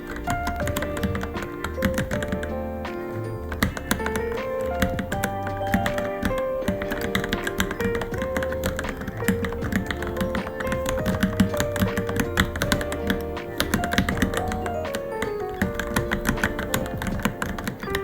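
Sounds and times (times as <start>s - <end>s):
mechanical keyboard typing: 0.0s - 18.0s
plucked melodic background music: 0.0s - 18.0s.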